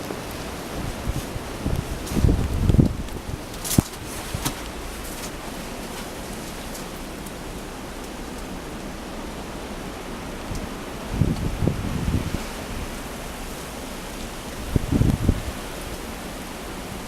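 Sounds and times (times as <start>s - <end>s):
blizzard wind and blowing snow: 0.0s - 17.0s.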